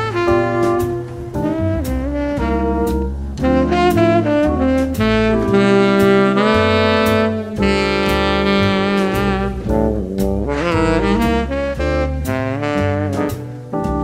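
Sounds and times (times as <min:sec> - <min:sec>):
horn holding long notes: 0:00.0 - 0:13.5
bass line: 0:00.0 - 0:14.0
drums: 0:00.0 - 0:14.0.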